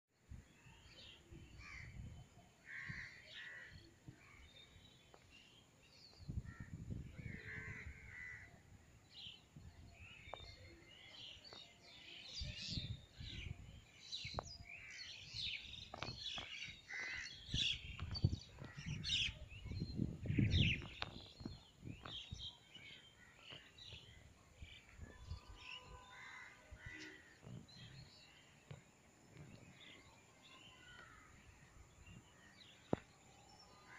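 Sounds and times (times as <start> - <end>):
birds calling and chirping: 0.7 - 33.9.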